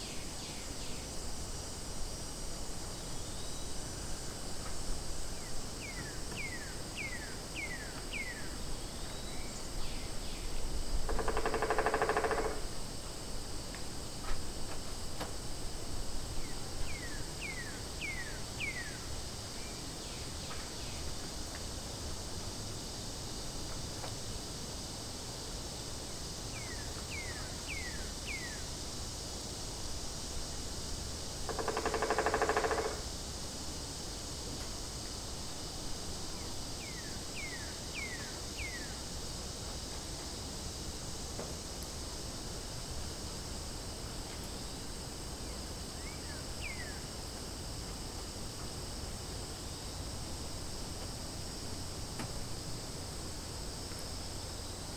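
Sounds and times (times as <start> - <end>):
buzzy insect call: 0.0 - 54.9
high-pitched insect chorus: 0.0 - 54.9.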